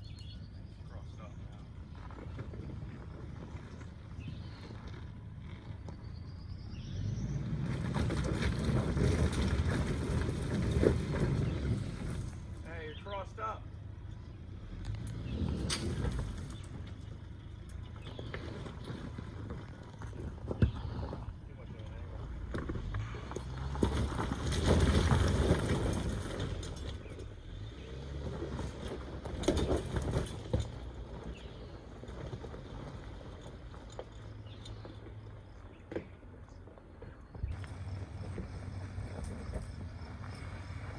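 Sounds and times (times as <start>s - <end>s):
tires crunching over stones: 0.0s - 40.9s
truck engine pulling uphill: 0.0s - 40.9s.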